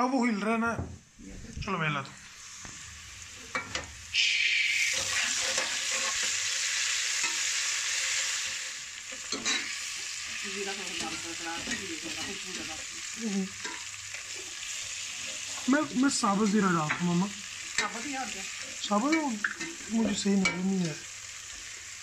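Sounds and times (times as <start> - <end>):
onions sizzling in hot oil: 2.2 - 22.0.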